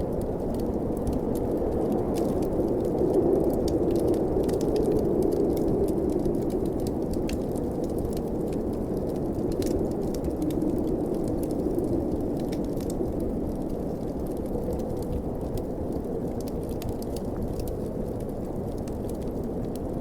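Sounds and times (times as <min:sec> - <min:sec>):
blizzard wind howling: 0:00.0 - 0:20.0
fireplace fire crackling: 0:00.0 - 0:20.0.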